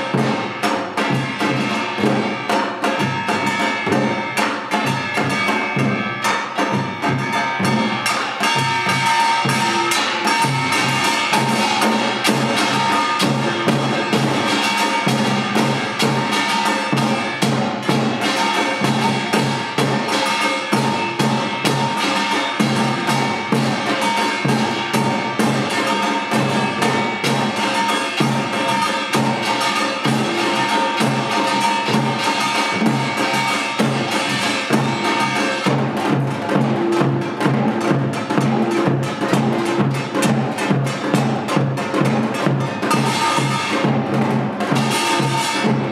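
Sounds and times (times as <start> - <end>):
hourglass drum strokes: 0.0 - 45.9.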